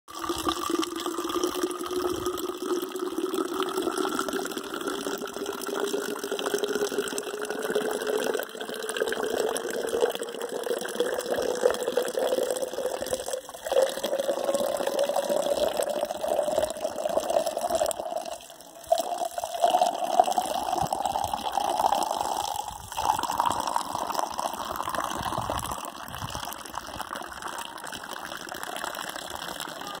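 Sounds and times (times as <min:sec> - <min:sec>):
water filling plastic bottle: 0:00.1 - 0:30.0.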